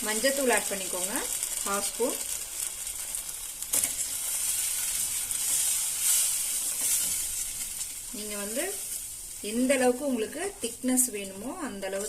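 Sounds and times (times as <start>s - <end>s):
paste sizzling in a pan: 0.0s - 12.0s.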